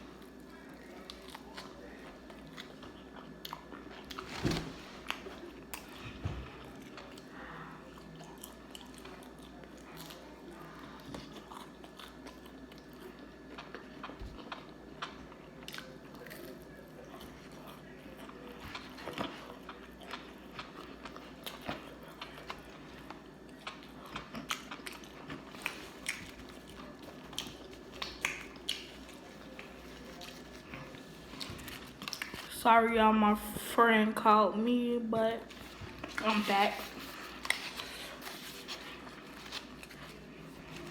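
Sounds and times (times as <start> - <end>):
crunchy chewing of fried food: 0.0 - 32.6, 35.5 - 40.9.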